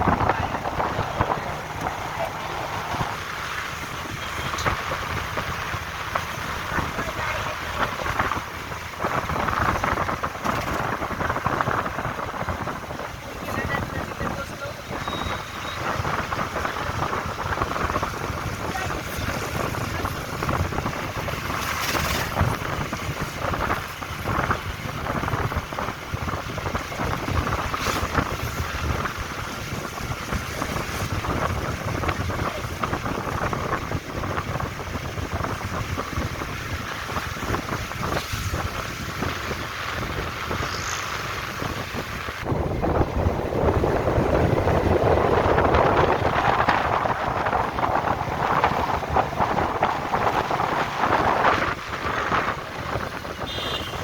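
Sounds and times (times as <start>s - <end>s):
vehicle rumbling on road: 0.0s - 54.0s
wind buffeting microphone: 0.0s - 54.0s.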